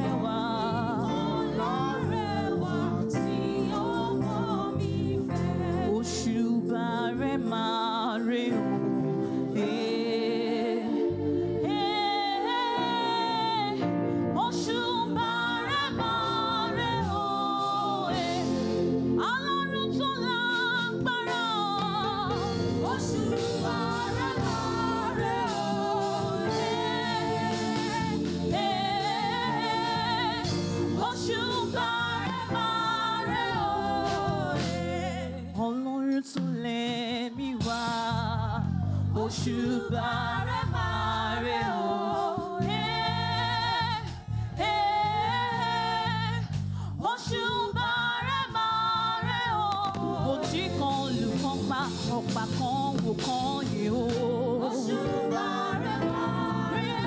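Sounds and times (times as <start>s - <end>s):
voices singing together: 0.0s - 57.0s.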